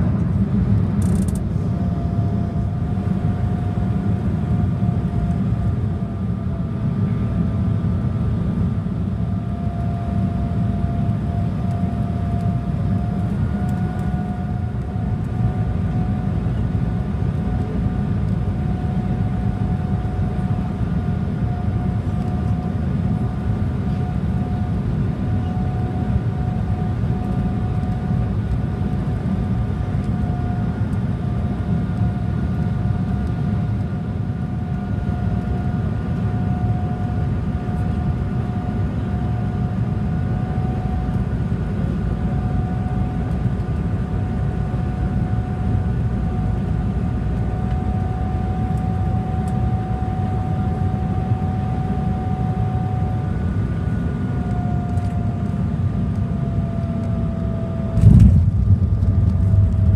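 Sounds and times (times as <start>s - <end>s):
faint high engine whine: 0.0s - 59.9s
jet engines and airflow rumble: 0.0s - 59.9s.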